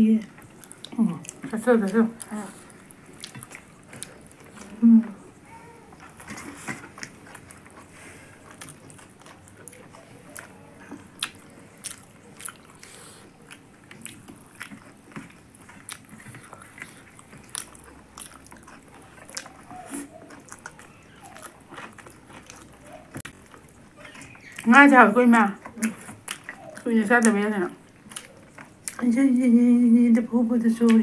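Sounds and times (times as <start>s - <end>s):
people chewing: 0.0s - 31.0s.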